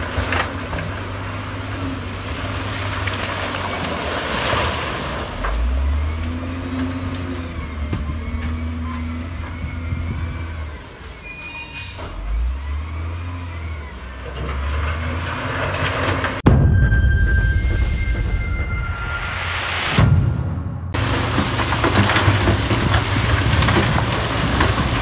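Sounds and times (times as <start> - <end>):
heavy diesel machinery running: 0.0 - 25.0.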